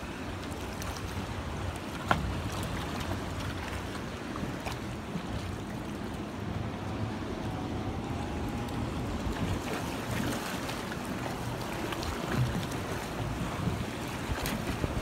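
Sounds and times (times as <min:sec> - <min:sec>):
sea noise: 0:00.0 - 0:15.0
wind: 0:00.0 - 0:15.0.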